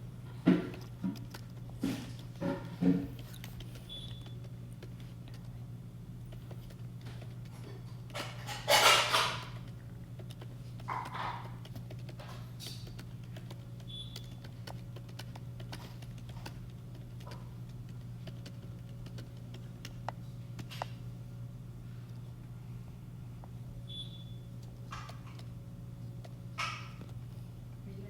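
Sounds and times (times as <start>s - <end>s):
steady low hum: 0.0s - 28.0s
faint clicks and taps: 0.3s - 5.6s, 6.2s - 21.1s, 24.6s - 27.4s.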